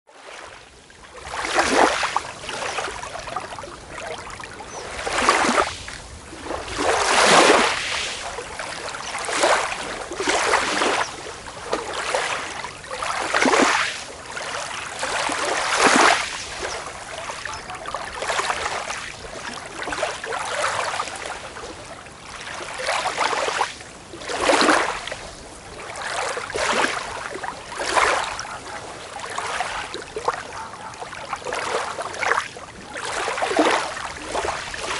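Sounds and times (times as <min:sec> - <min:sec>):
small waves breaking on beach: 0:00.1 - 0:34.9.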